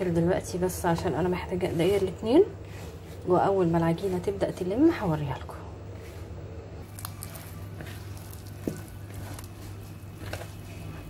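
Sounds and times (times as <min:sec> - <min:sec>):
steady low hum: 0:00.0 - 0:11.0
hands squishing dough: 0:00.9 - 0:05.4, 0:06.0 - 0:11.0.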